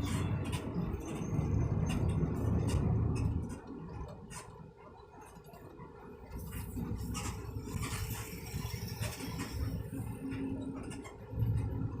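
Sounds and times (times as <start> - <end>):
car rumble inside cabin: 0.0 - 12.0.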